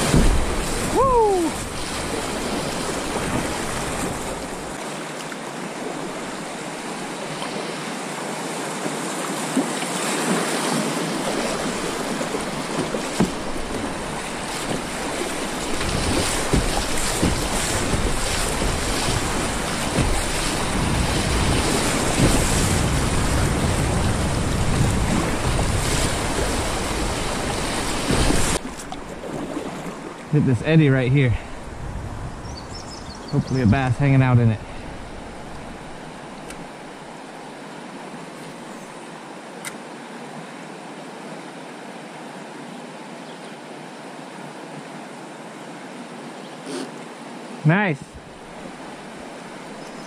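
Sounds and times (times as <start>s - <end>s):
rushing whitewater: 0.0s - 32.0s, 33.3s - 50.0s
waves splashing against kayak: 0.0s - 50.0s.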